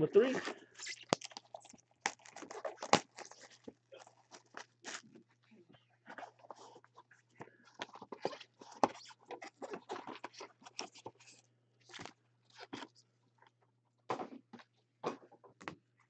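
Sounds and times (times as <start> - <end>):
cardboard and wrapping crinkling: 0.2 - 13.1.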